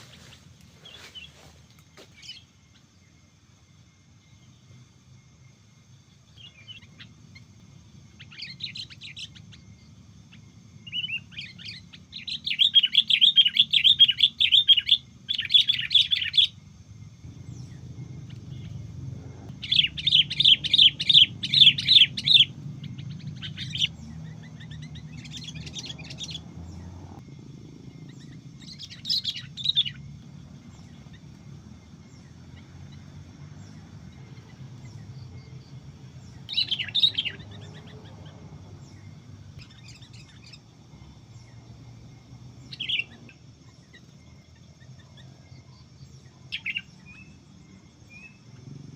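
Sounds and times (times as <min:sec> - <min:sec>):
birds chirping rapidly: 0:00.0 - 0:03.4, 0:06.0 - 0:48.9.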